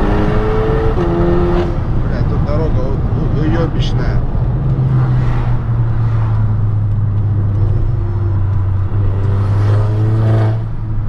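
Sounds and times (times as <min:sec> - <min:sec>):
car engine drone inside cabin: 0:00.0 - 0:11.0.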